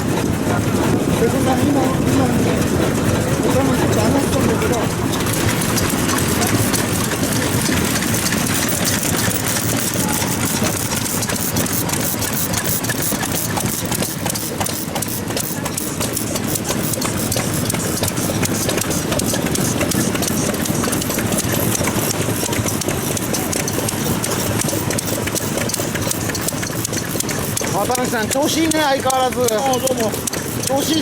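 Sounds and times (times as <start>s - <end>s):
old engines chugging at idle: 0.0s - 31.0s.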